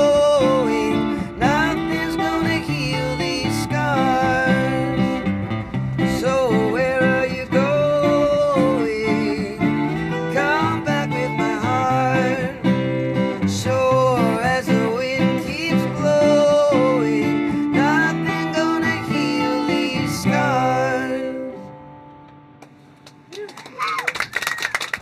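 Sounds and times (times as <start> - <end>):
sliding guitar lead melody: 0.0 - 23.0
band playing guitars live: 0.0 - 23.3.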